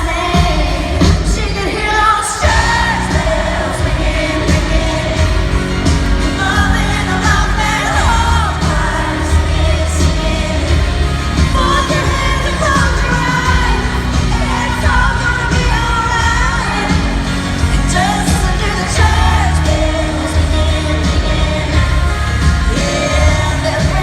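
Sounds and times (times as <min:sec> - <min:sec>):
live band playing: 0:00.0 - 0:24.0
woman singing: 0:00.0 - 0:24.0.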